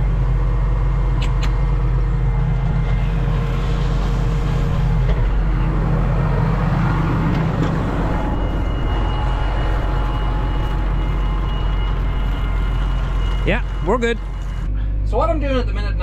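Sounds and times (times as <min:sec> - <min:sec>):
tractor engine running: 0:00.0 - 0:14.8
thin high whine: 0:02.0 - 0:14.8.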